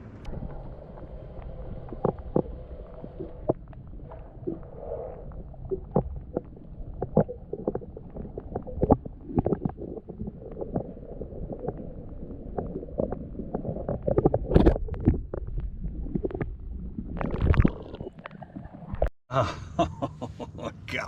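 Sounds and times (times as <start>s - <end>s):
low rumble: 0.0s - 17.9s
water lapping against boat hull: 0.1s - 19.0s.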